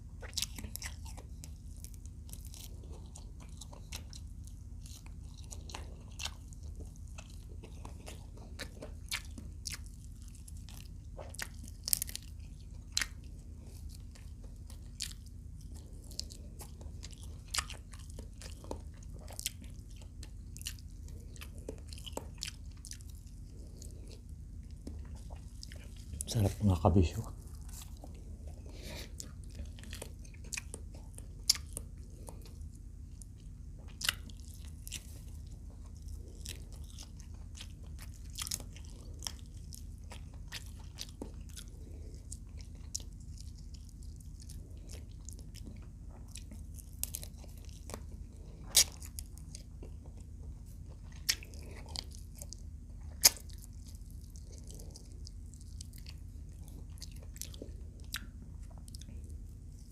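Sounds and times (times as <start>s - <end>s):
crunching and chewing food: 0.0s - 59.9s
steady low hum: 0.0s - 59.9s.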